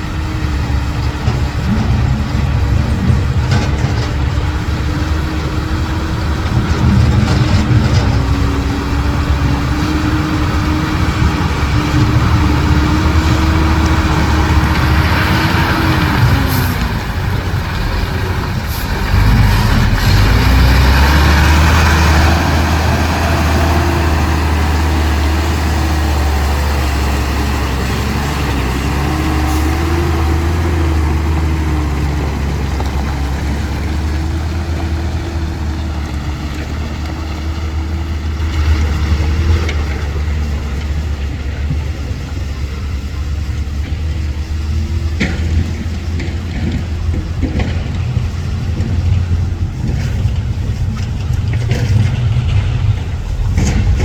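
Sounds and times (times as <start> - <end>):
deep low rumble: 0.0 - 54.0
heavy diesel engines under load: 0.0 - 54.0.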